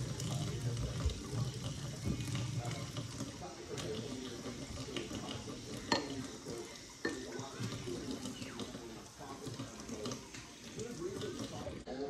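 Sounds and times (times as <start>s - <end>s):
knife being rinsed: 0.0s - 11.8s.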